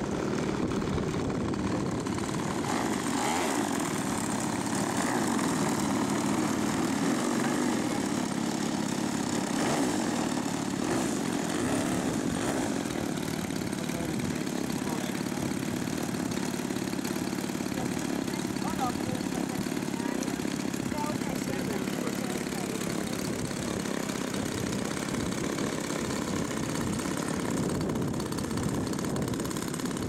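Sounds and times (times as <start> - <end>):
two-stroke engine running: 0.0 - 30.0.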